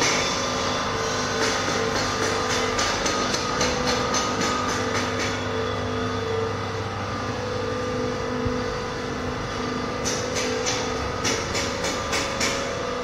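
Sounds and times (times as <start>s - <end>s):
machinery hum and whine: 0.0s - 13.0s.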